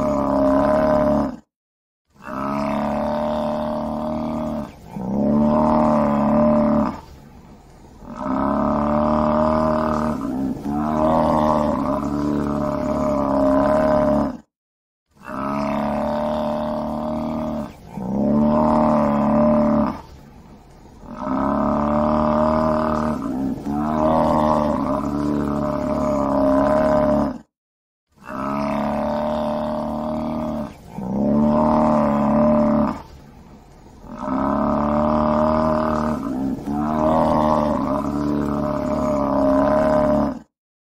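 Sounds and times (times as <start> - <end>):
buffalo bellowing: 0.0 - 1.4, 2.2 - 7.2, 8.0 - 14.4, 15.2 - 20.2, 21.0 - 27.4, 28.2 - 33.2, 34.0 - 40.5.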